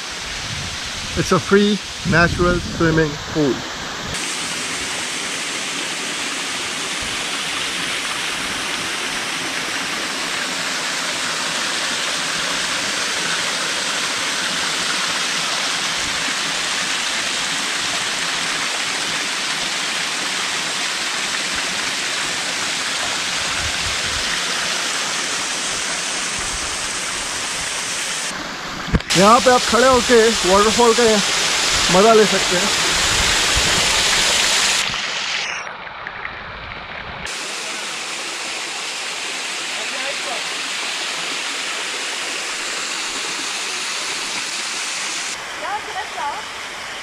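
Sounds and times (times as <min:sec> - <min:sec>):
waterfall cascading over boulders: 0:00.0 - 0:36.3, 0:37.3 - 0:47.0.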